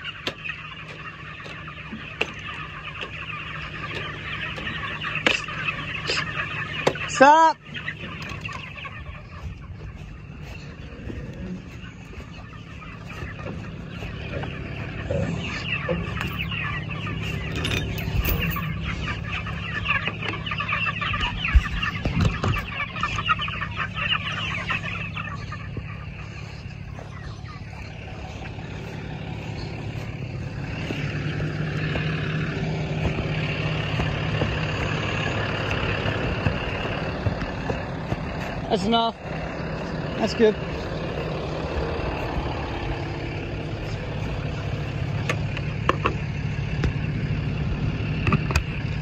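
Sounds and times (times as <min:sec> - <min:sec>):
chickens clucking and chattering: 0:00.0 - 0:49.0
truck engine humming: 0:00.0 - 0:49.0.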